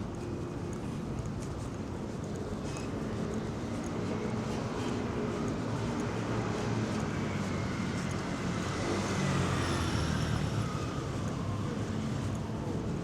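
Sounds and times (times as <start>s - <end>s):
street traffic: 0.0s - 13.0s
vehicle engine running nearby: 0.0s - 13.0s.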